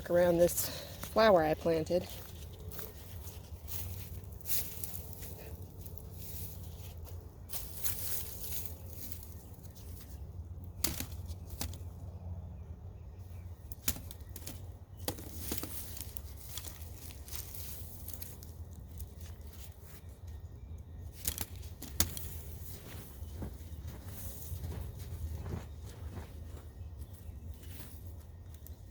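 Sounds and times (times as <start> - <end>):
soil and foliage rustling: 0.0 - 28.9.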